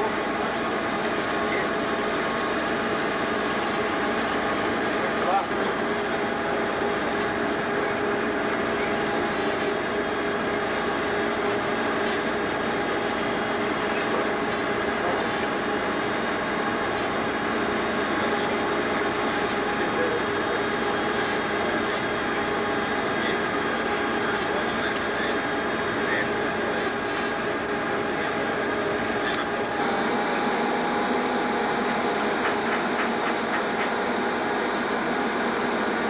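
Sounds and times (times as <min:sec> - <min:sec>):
steady mechanical drone: 0:00.0 - 0:36.0.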